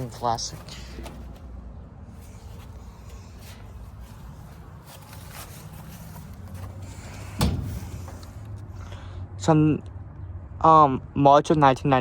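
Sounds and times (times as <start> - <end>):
low outdoor rumble: 0.0 - 11.2.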